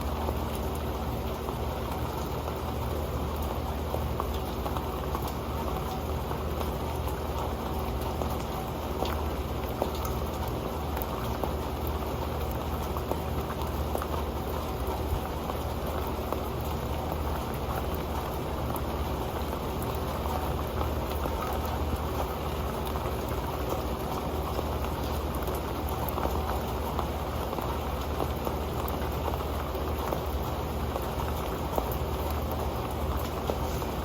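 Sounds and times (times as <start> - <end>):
rain pattering on metal pan: 0.0 - 34.0.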